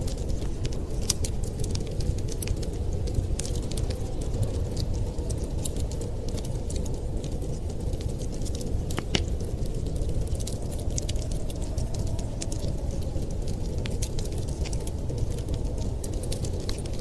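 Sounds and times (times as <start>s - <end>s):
fire rumbling: 0.0s - 17.0s
wood fire crackling: 0.0s - 17.0s.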